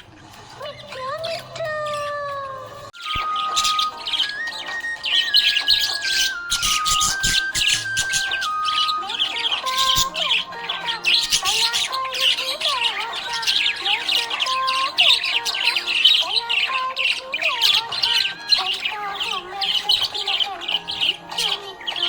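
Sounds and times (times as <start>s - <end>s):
parrots chirping and squawking: 0.0s - 22.0s.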